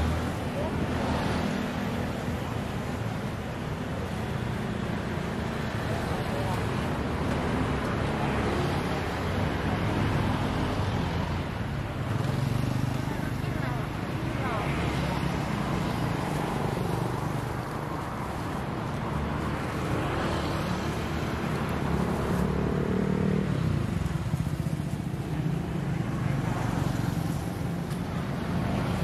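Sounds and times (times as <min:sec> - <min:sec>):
passing vehicles rumble: 0:00.0 - 0:29.0.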